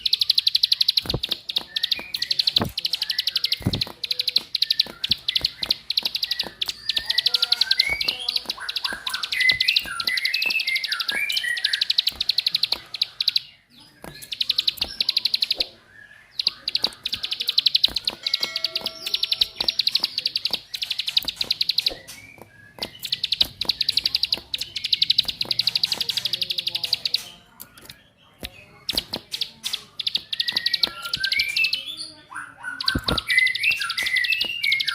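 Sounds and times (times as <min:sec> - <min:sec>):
bird clicking call: 0:00.0 - 0:15.8, 0:16.4 - 0:31.9, 0:32.7 - 0:34.9
bird twittering song: 0:00.0 - 0:34.9.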